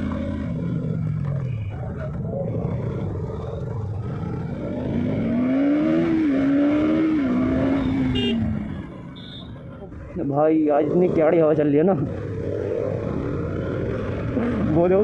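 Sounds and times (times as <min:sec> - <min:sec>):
motorcycle engine revving: 0:00.0 - 0:09.2, 0:10.7 - 0:15.0.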